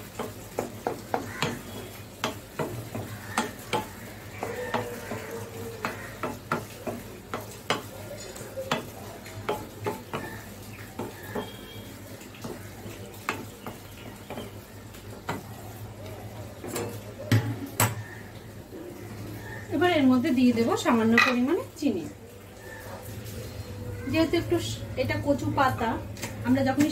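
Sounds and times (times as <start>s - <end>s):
food sizzling: 0.0s - 26.9s.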